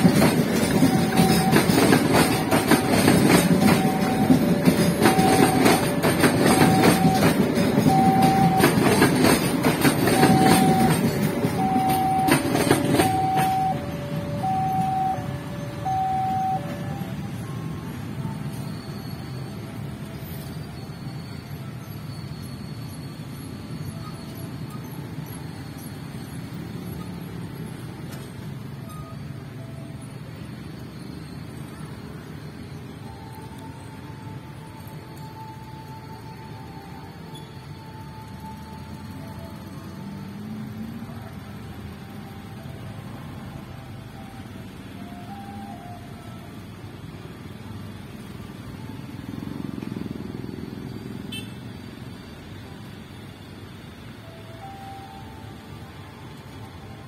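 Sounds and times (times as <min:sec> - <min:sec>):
steady high tone: 0:00.0 - 0:57.0
vehicles passing: 0:00.0 - 0:57.0.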